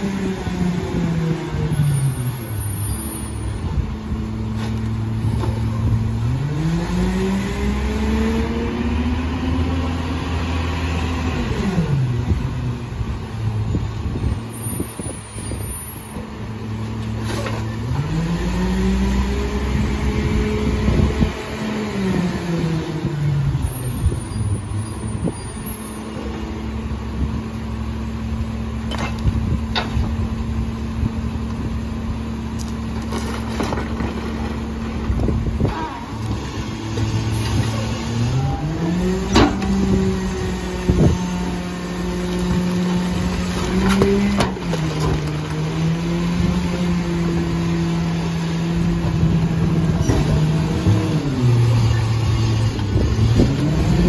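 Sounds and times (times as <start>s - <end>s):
garbage truck engine revving: 3.7s - 15.0s, 16.2s - 54.0s.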